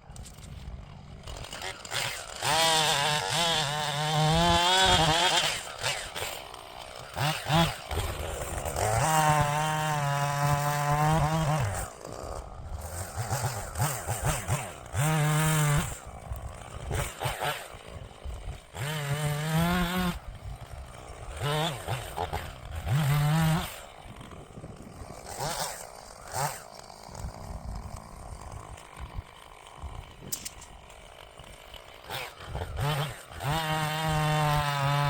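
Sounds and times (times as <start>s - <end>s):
chainsaw revving: 0.0s - 35.0s.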